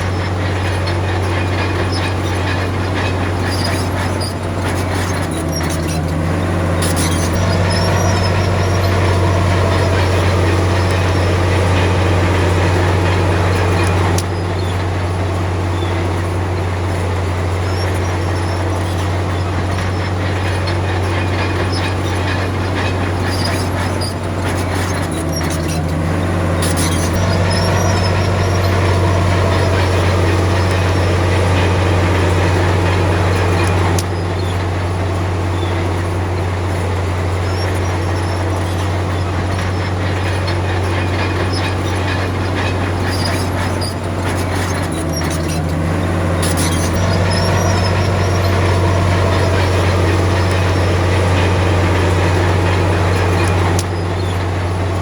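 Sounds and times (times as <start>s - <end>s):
diesel engine droning: 0.0s - 55.0s
tracks rattling and clanking: 0.0s - 55.0s.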